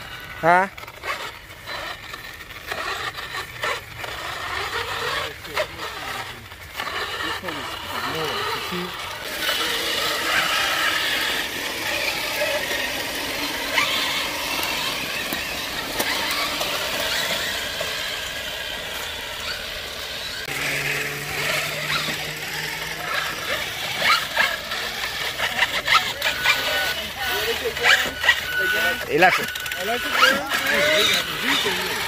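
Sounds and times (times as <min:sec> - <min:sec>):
electric motors and gears whining: 0:00.0 - 0:32.0.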